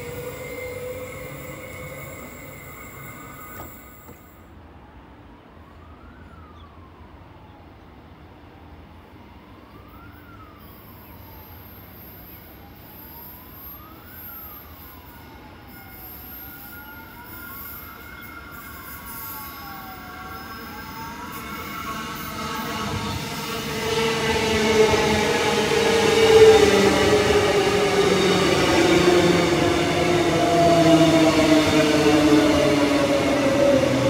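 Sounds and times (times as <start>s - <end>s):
electric train rumbling: 0.0s - 4.6s, 10.6s - 34.0s
emergency vehicle siren wailing: 0.0s - 34.0s.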